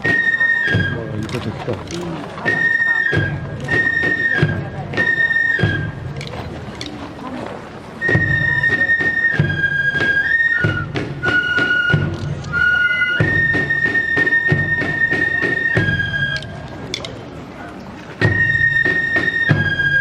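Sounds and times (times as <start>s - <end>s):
drumbeats: 0.0s - 17.4s, 18.0s - 20.0s.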